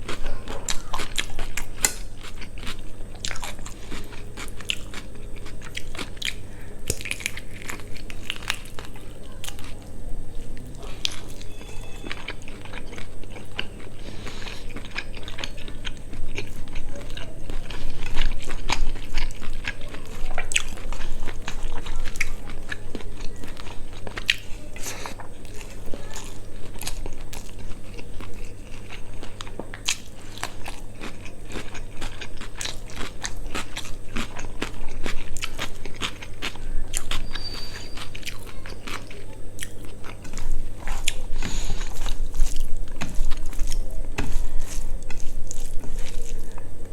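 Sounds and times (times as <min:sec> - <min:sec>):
person chewing food: 0:00.0 - 0:46.9
steady low hum: 0:00.0 - 0:46.9.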